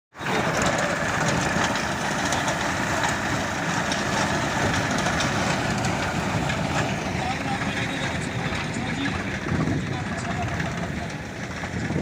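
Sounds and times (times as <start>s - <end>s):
tractor engine running: 0.1s - 12.0s.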